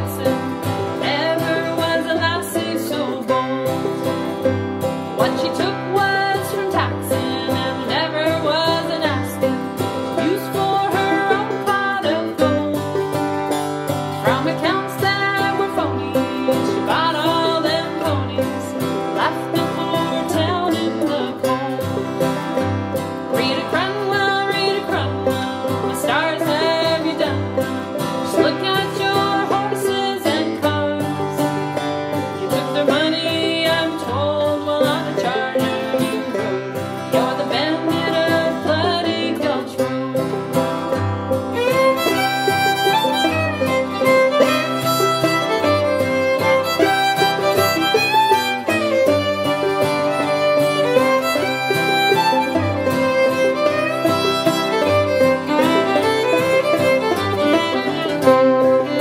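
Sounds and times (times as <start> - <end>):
fiddle sliding melody: 0.0 - 59.0
plucked strings: 0.0 - 59.0.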